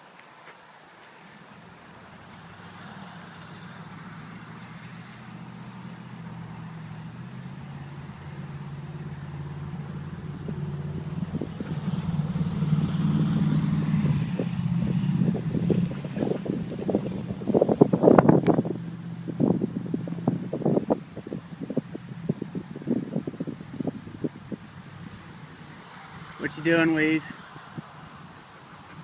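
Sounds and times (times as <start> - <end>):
vehicle engine humming: 1.2 - 29.0.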